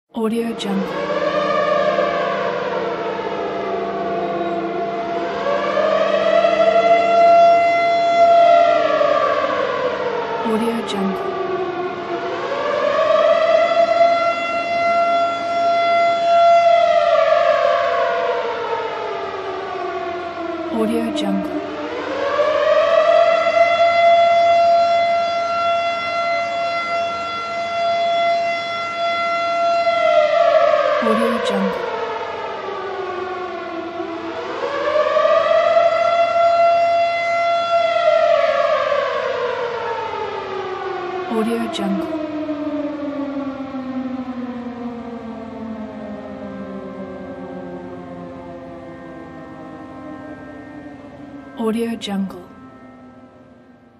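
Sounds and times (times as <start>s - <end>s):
air raid siren wailing: 0.1s - 53.9s.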